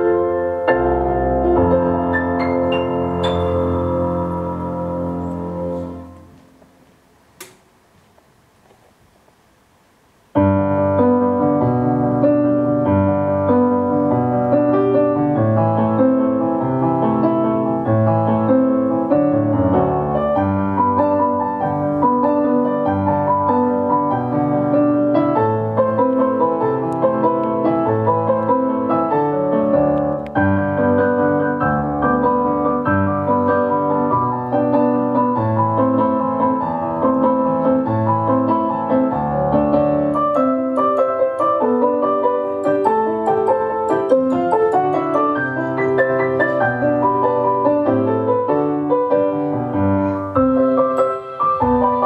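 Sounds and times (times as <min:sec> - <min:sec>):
piano music: 0:00.0 - 0:06.8, 0:10.4 - 0:52.0.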